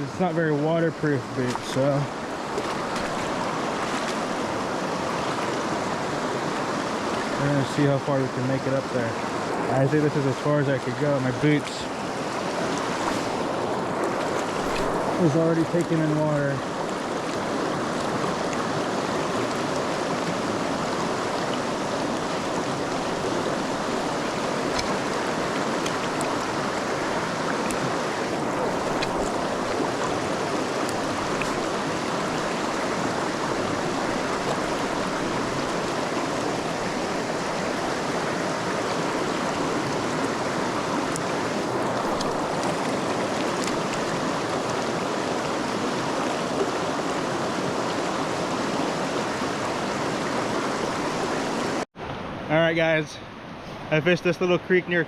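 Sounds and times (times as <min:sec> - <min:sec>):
creek running over rocks: 0:00.0 - 0:51.9.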